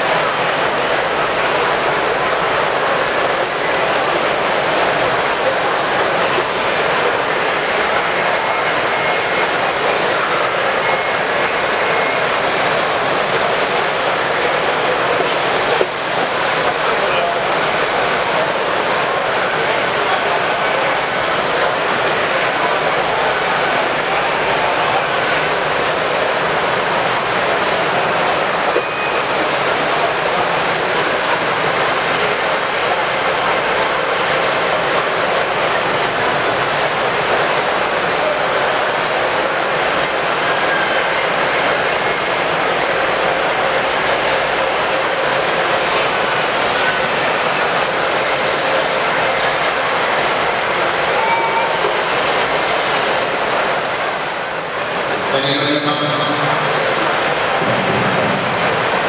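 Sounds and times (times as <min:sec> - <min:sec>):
busy exhibition hall noise: 0:00.0 - 0:59.0.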